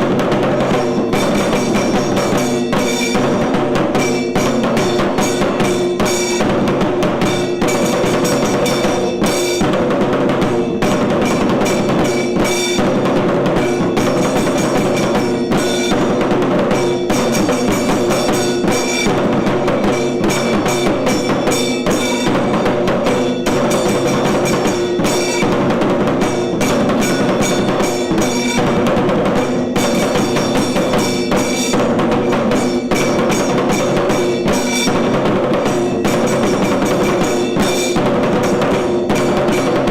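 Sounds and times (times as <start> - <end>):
cymbal strokes: 0.0 - 39.9
fast dense drumming: 0.0 - 39.9.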